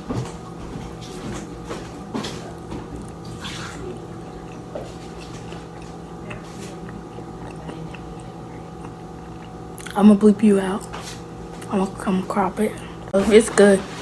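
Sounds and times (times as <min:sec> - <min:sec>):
wet chewing noises: 0:00.0 - 0:11.8
steady background hum: 0:00.0 - 0:14.0.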